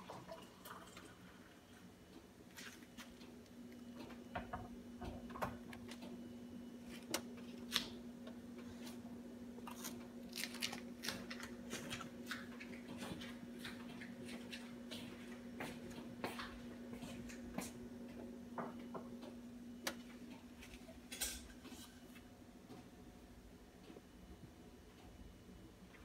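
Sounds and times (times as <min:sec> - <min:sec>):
oven hum: 0:00.0 - 0:26.0.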